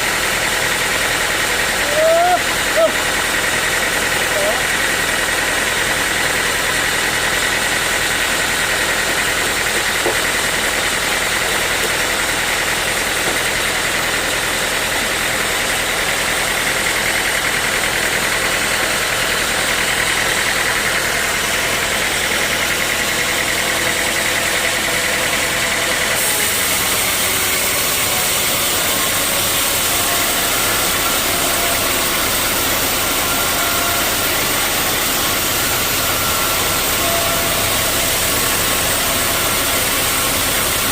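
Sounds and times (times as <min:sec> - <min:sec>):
high mechanical whine: 0:00.0 - 0:40.9
sawmill machinery running: 0:00.0 - 0:40.9.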